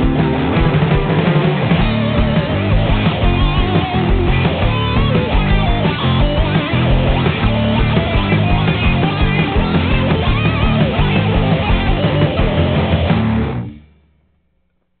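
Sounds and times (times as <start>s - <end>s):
guitar rock music: 0.0s - 13.9s.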